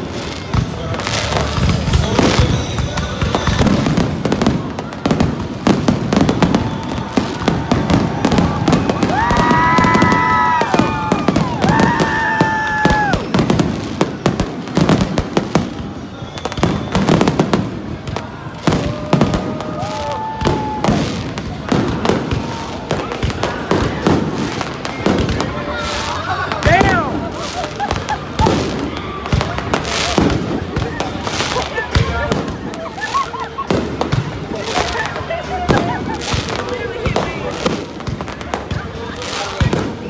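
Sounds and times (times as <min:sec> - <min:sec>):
fireworks crackling and popping: 0:00.0 - 0:40.0.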